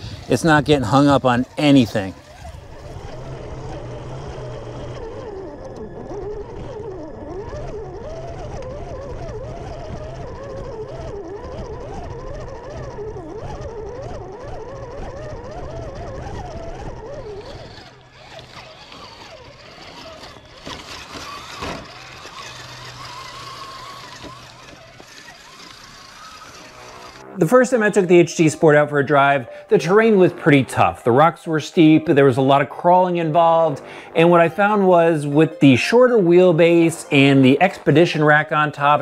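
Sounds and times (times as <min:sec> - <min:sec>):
electric motor whining: 0:00.0 - 0:28.2, 0:31.6 - 0:39.0.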